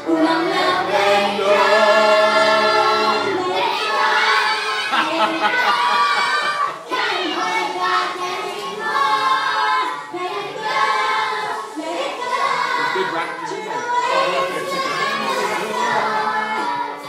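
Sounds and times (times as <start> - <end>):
children and adults singing: 0.0 - 17.0.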